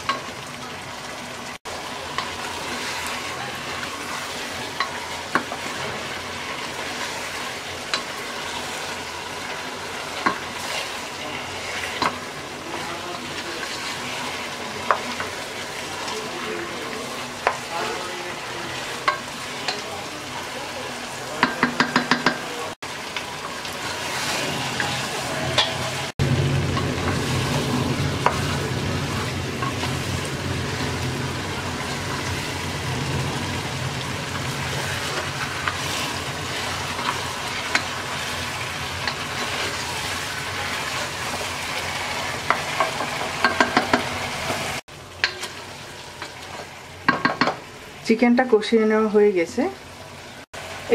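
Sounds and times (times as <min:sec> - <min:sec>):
chicken sizzling in a pot: 0:00.0 - 0:50.9.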